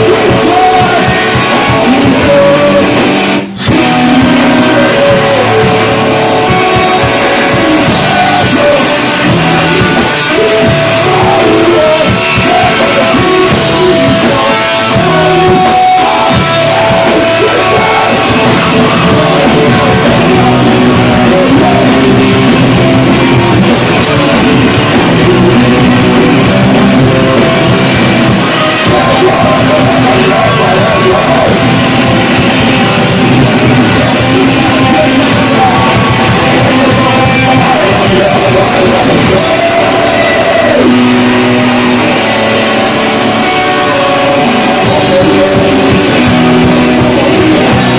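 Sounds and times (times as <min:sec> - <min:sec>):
rock band playing: 0:00.0 - 0:47.9
vocalist singing and yelling: 0:00.0 - 0:47.9.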